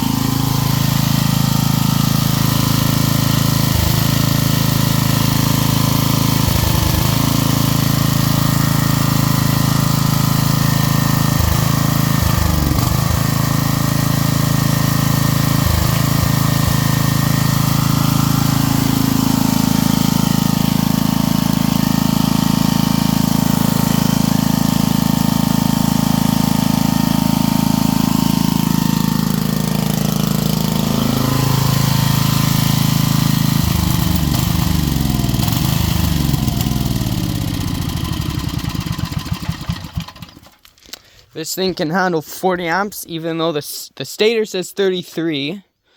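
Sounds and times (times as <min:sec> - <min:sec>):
portable generator engine running: 0:00.0 - 0:40.7.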